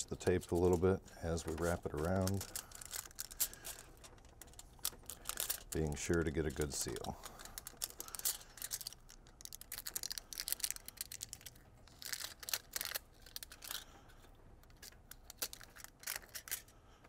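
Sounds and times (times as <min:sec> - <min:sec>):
tape crackling and rustling: 0:00.0 - 0:17.0.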